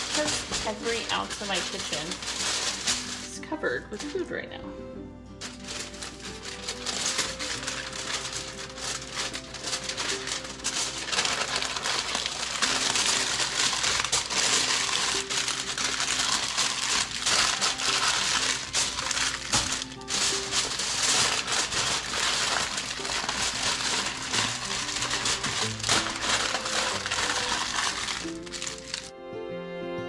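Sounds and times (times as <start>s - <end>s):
aluminum foil crinkling: 0.0s - 4.5s, 5.4s - 29.1s
quiet background music: 0.0s - 30.0s.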